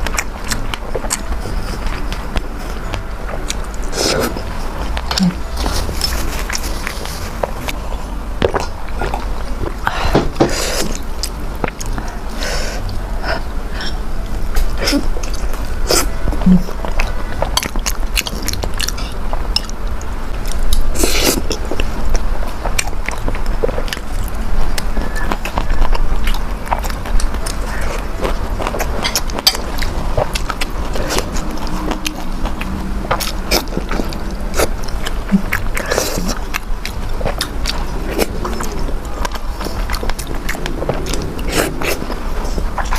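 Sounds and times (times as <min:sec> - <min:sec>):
chewing with wet mouth smacks: 0:00.0 - 0:42.9.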